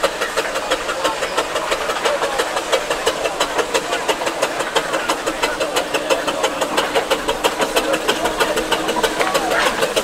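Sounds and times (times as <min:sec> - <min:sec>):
steam roller chuffing: 0:00.0 - 0:10.0.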